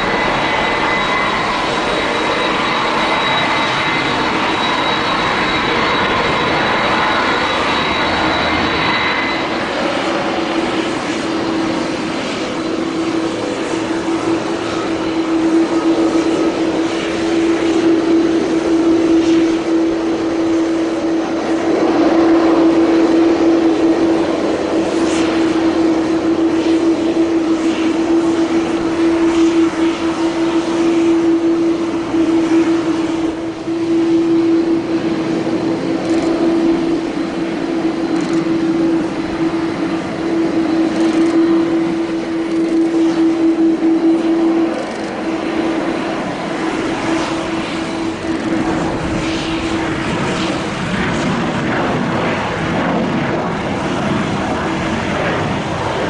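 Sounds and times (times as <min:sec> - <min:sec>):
jet engines droning: 0:00.0 - 0:56.0.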